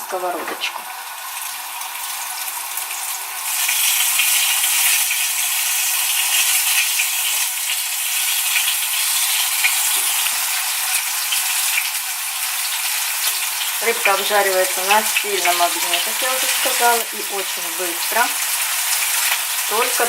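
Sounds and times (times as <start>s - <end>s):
fish frying in oil: 0.1s - 20.0s.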